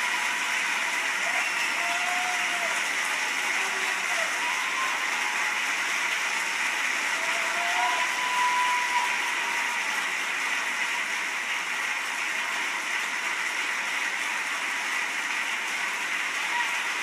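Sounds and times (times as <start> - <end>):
applause through laptop speakers: 0.0 - 17.0.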